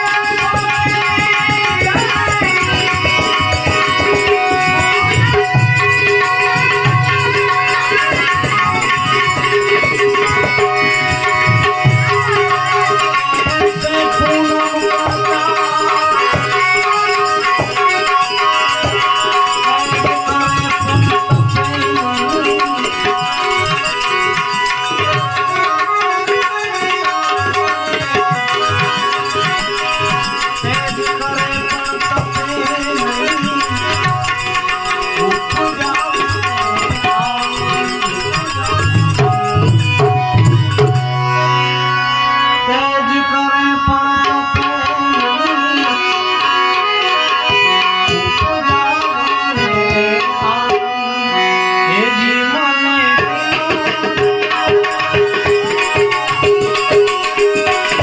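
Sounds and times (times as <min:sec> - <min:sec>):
held melodic notes: 0:00.0 - 0:58.0
tabla playing a steady beat: 0:00.0 - 0:58.0.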